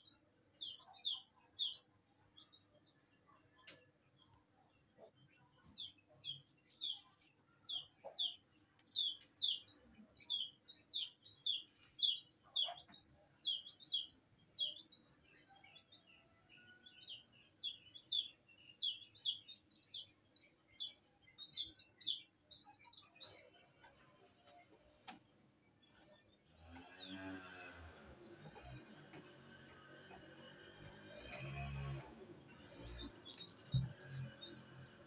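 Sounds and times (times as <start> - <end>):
small bird chirping: 0.0 - 28.8, 29.6 - 35.0.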